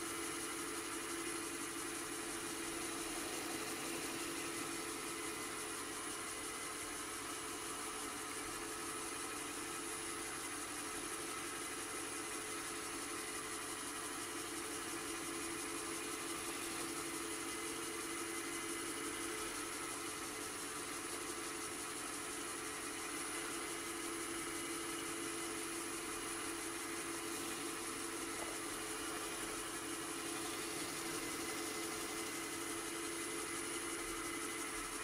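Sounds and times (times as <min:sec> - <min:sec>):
wood lathe motor hum: 0:00.0 - 0:35.0.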